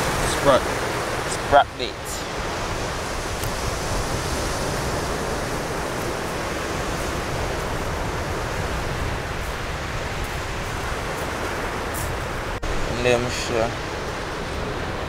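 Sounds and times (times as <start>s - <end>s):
sea surf breaking on beach: 0.0s - 15.0s.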